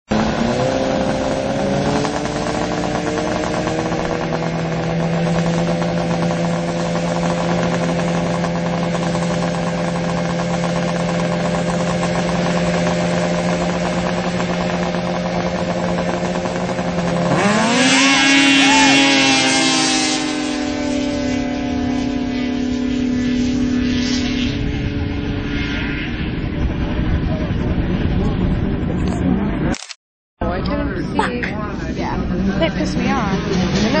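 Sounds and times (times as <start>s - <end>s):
snowmobile engine revving: 0.1s - 29.1s, 30.8s - 34.0s.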